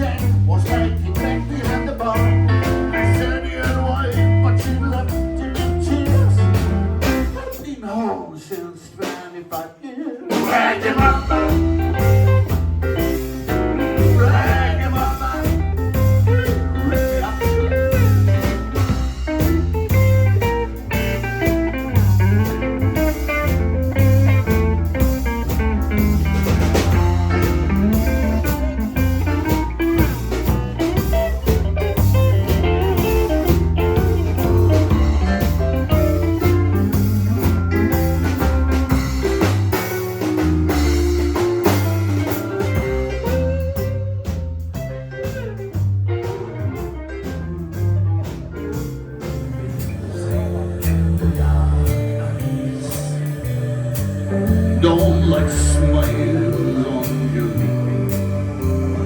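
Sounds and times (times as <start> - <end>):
blues band playing: 0.0 - 9.6, 10.2 - 59.0.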